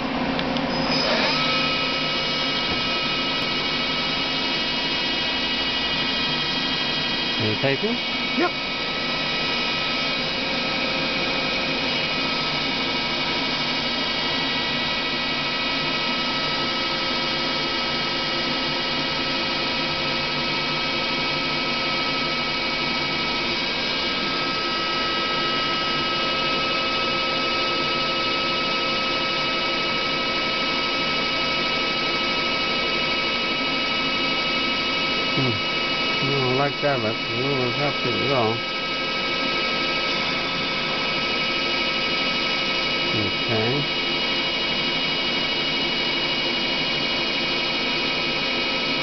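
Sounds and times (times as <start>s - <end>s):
lathe humming and whining: 0.0s - 49.0s.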